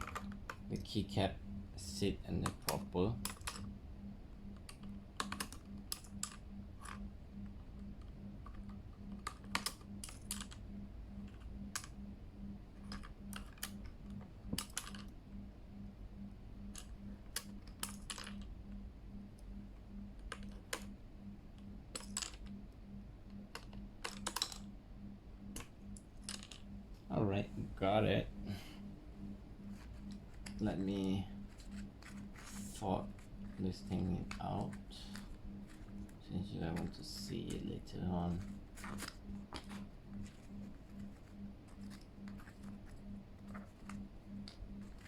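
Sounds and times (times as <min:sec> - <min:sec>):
low pulsing hum: 0:00.0 - 0:45.0.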